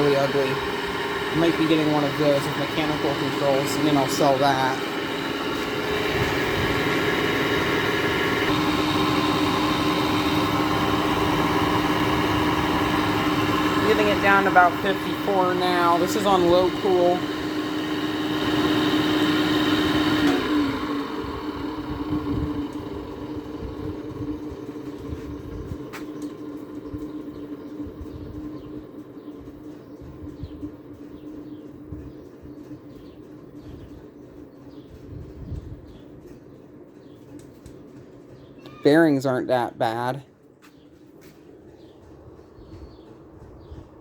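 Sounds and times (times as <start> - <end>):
air conditioner droning: 0.0 - 44.0.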